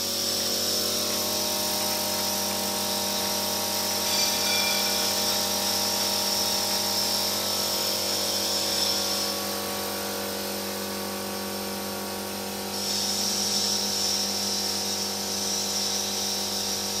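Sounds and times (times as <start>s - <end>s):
high machine whine: 0.0s - 17.0s.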